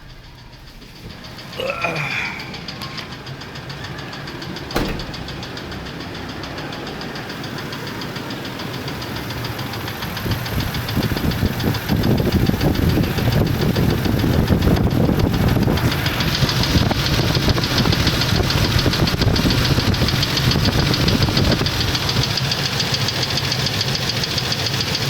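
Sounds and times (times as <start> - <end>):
engine with rhythmic knock: 0.0 - 25.0.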